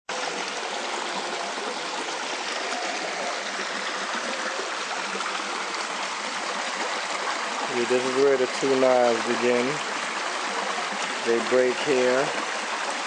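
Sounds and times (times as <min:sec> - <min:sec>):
stream rushing over boulders: 0:00.1 - 0:13.0.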